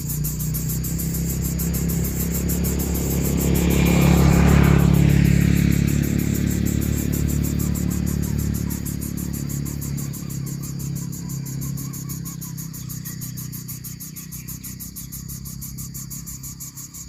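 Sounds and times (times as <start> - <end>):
fast high-pitched pulsing: 0.0 - 14.5
vehicle engine running: 0.0 - 17.0.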